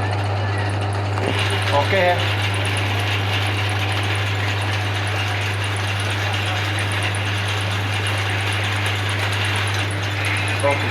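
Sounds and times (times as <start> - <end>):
metal lathe motor humming: 0.0 - 10.9.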